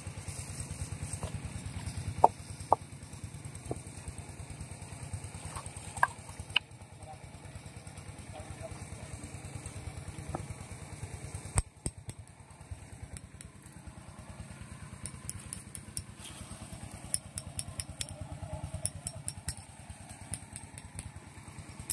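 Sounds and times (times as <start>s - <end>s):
engine idling: 0.0s - 21.9s.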